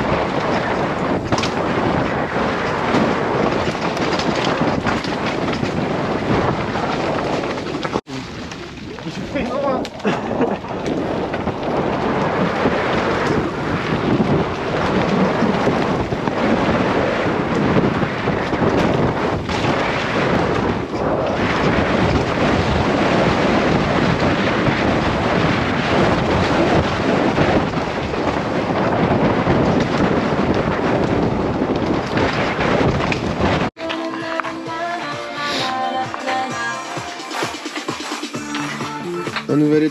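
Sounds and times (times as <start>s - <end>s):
wind buffeting microphone: 0.0s - 33.8s
bike rattling: 0.0s - 35.2s, 35.9s - 39.9s
tyres rolling over dirt: 0.0s - 39.9s.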